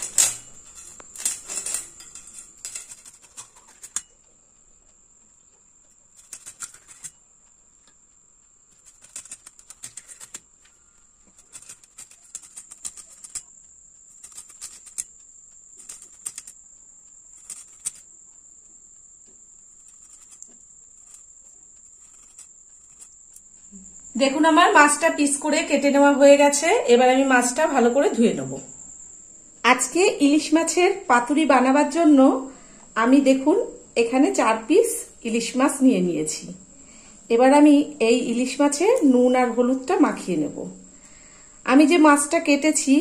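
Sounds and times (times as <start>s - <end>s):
faint high-pitched whine: 0.0s - 43.0s.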